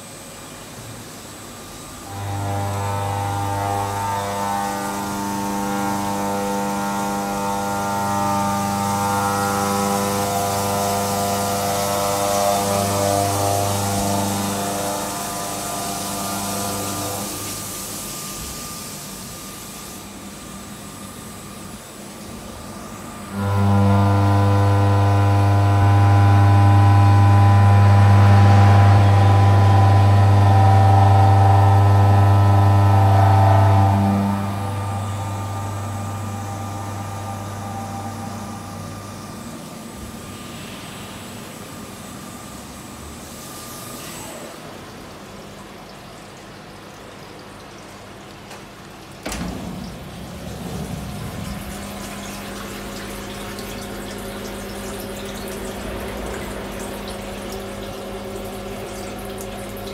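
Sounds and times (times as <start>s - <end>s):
milling machine hum: 0.0s - 59.9s.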